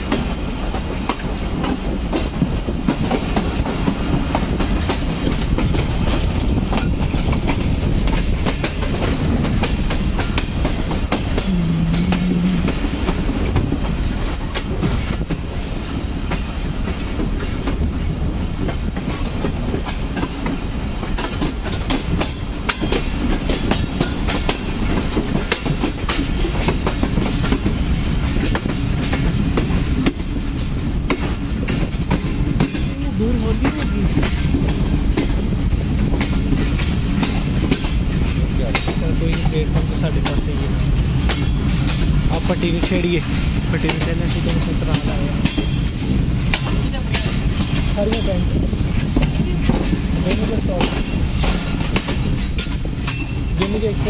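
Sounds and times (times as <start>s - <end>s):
train rumbling at speed: 0.0s - 54.0s
wheels clacking over rail joints: 0.0s - 54.0s.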